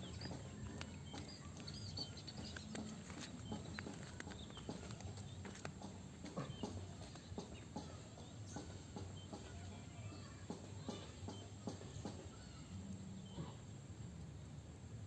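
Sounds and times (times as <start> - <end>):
faint irregular clicks and taps: 0.0 - 13.0.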